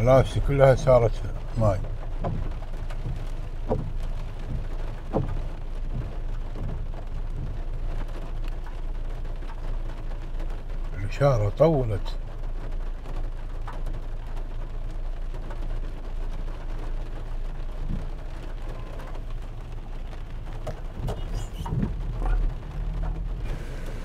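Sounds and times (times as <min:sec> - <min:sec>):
heavy rain falling: 0:00.0 - 0:24.0
raindrop ticks: 0:00.0 - 0:24.0.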